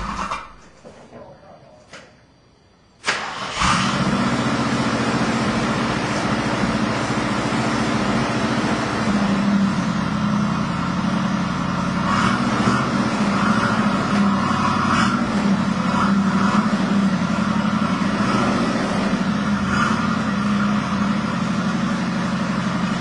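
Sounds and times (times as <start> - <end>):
car engine idling: 3.2 - 23.0.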